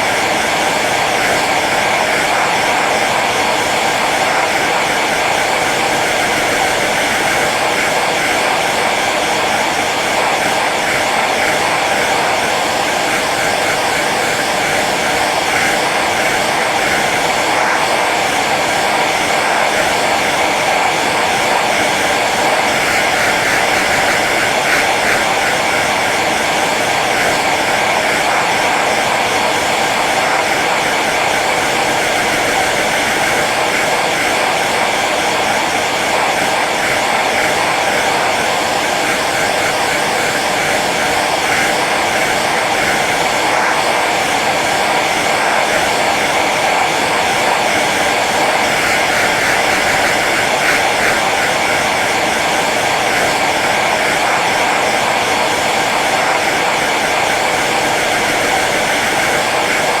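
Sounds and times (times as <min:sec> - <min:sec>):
hair dryer running: 0:00.0 - 1:00.0.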